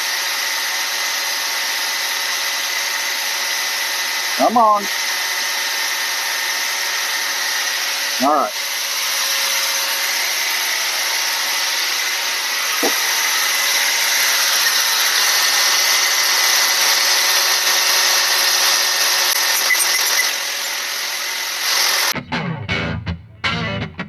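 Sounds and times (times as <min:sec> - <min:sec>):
piston ring grinder grinding: 0:00.0 - 0:22.2.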